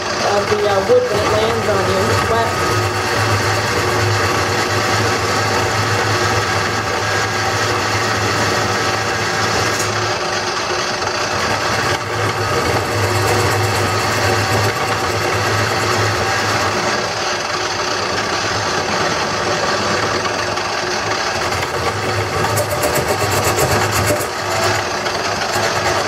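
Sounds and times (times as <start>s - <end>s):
lathe motor hum: 0.0s - 26.0s
tool cutting spinning wood: 0.0s - 26.0s.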